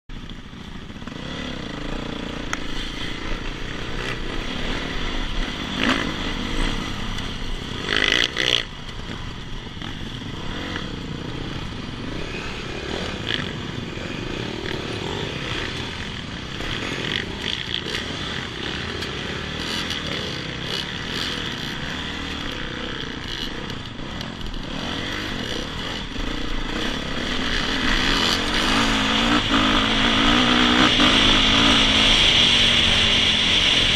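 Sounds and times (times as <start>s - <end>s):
dirt bike engine running: 0.1s - 33.9s.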